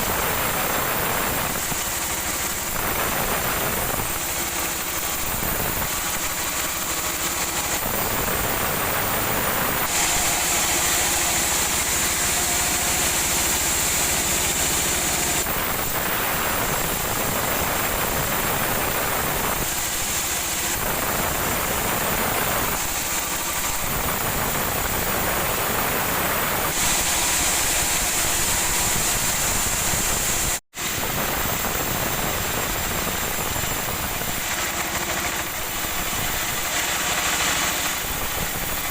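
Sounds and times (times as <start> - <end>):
sawmill machinery sawing wood: 0.0 - 38.9.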